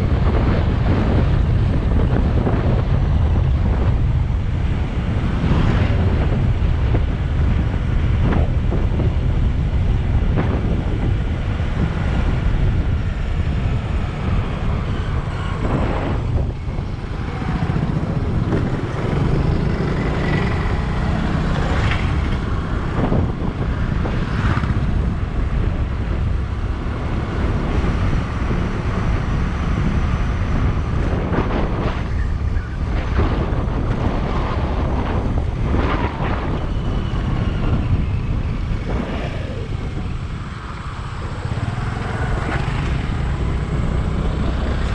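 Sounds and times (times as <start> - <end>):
motorcycle engine running: 0.0 - 44.9
vehicles sweeping by: 0.0 - 44.9
wind buffeting microphone: 0.0 - 44.9.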